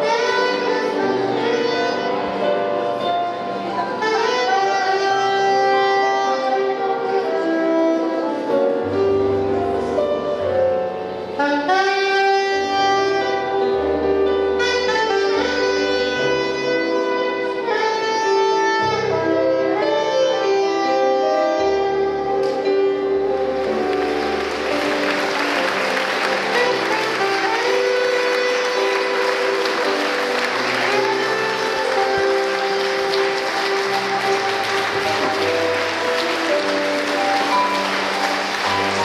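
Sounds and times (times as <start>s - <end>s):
jazzy saxophone melody: 0.0s - 39.0s.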